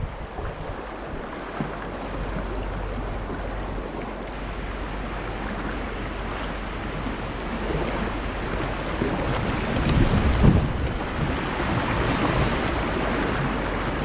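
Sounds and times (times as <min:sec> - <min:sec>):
river water rushing over riffles: 0:00.0 - 0:14.0.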